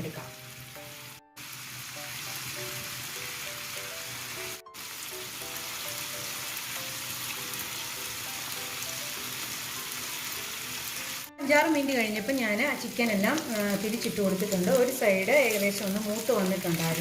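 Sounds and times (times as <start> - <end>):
background music melody: 0.0 - 17.0
chicken sizzling in hot oil: 0.0 - 17.0.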